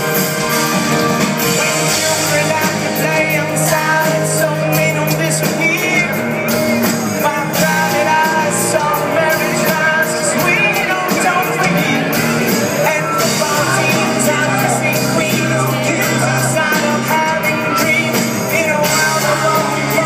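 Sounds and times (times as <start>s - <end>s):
lead vocal singing: 0.0s - 20.0s
rock band playing live: 0.0s - 20.0s.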